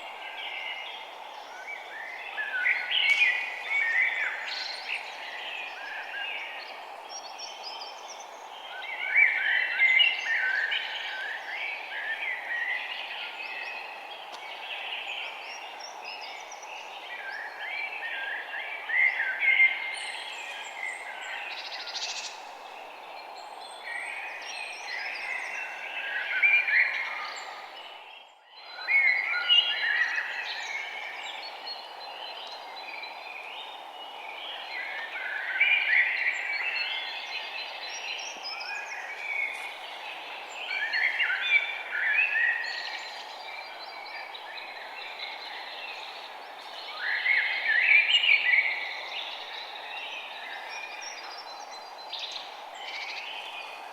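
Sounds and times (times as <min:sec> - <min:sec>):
songbirds chirping and twittering: 0:00.0 - 0:53.9
steady background hiss: 0:00.0 - 0:53.9.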